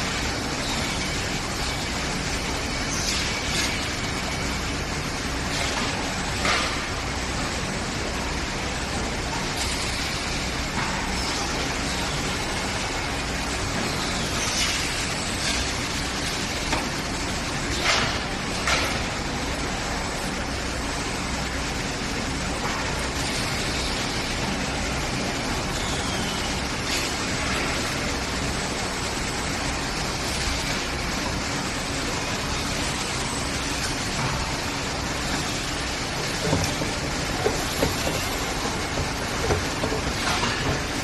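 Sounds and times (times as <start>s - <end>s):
factory machinery running: 0.0s - 41.0s.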